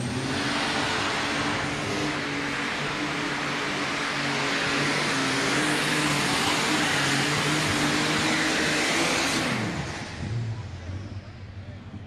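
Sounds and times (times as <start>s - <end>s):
tractor engine at full throttle: 0.0s - 12.0s.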